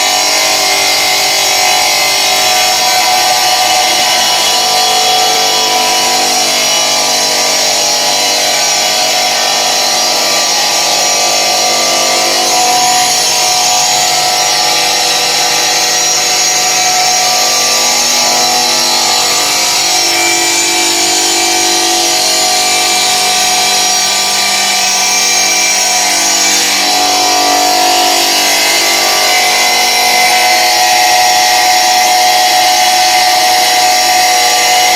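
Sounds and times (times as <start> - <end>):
stone-cutting saw running: 0.0 - 34.9.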